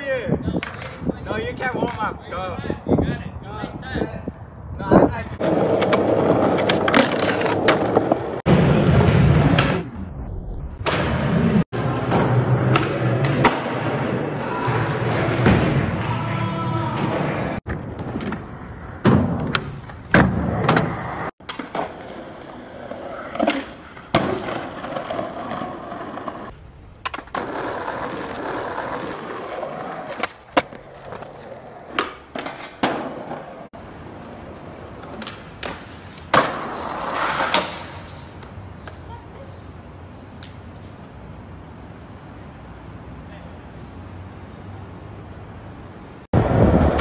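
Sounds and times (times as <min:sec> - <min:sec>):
skateboard wheels rolling on concrete: 0:00.0 - 0:47.0.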